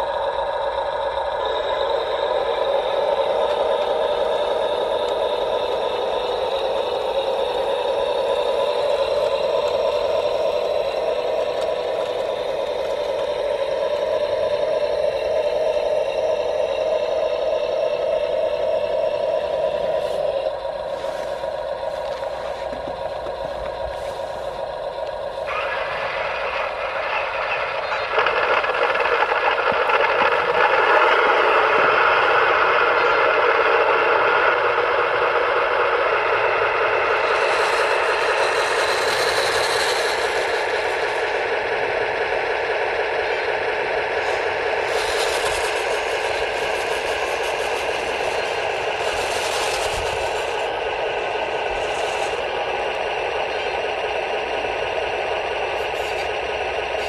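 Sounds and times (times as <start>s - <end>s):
electric motors whining: 0.0s - 57.0s.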